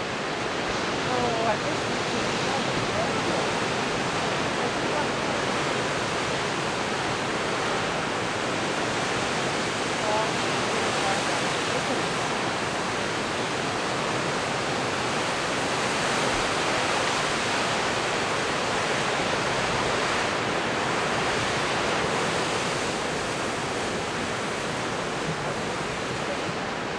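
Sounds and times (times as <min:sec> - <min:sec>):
ocean surf breaking over rocks: 0:00.0 - 0:26.9.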